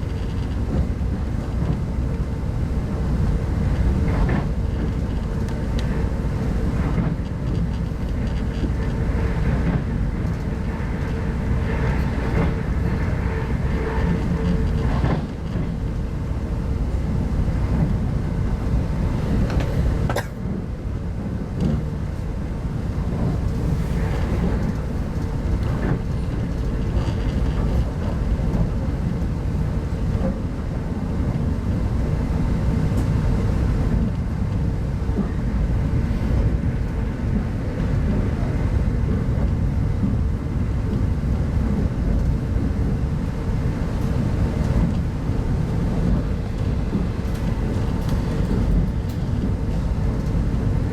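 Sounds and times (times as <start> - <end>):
train carriage rumbling: 0.0 - 50.9.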